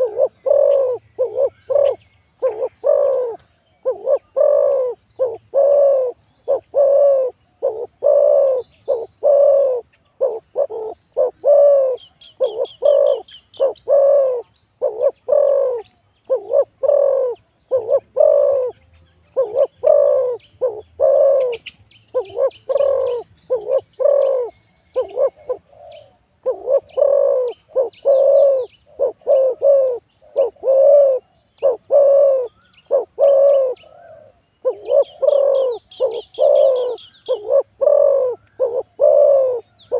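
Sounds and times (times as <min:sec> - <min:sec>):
doves cooing: 0:00.0 - 0:39.9
small birds chirping faintly: 0:00.0 - 0:39.9.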